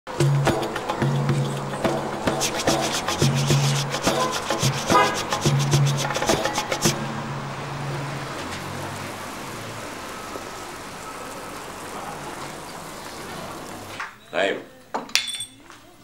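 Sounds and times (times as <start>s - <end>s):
steady noisy hiss: 0.1s - 14.6s
indistinct voices: 0.1s - 14.9s.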